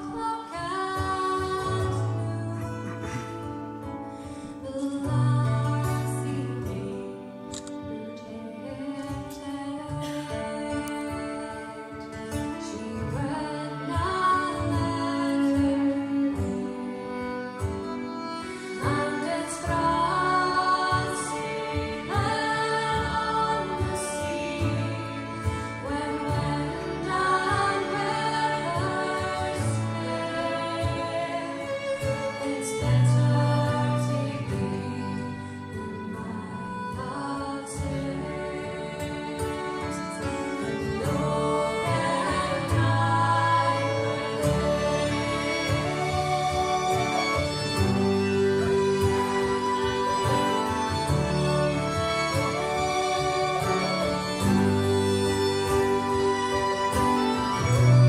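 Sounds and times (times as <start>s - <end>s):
fiddles playing: 0.0s - 58.0s
woman singing: 0.0s - 58.0s.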